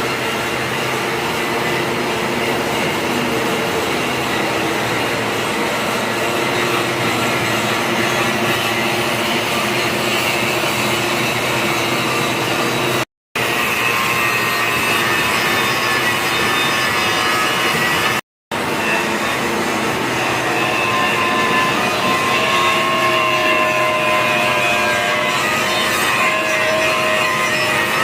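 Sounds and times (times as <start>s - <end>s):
angle grinder grinding steel: 0.0s - 28.0s.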